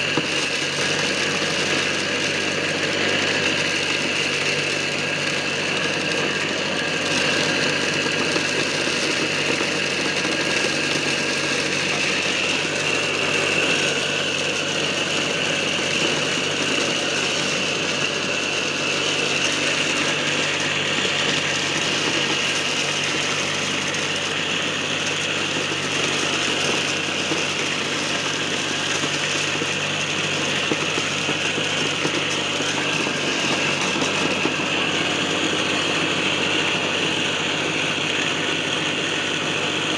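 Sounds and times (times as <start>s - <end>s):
corn sheller motor whine: 0.0s - 39.9s.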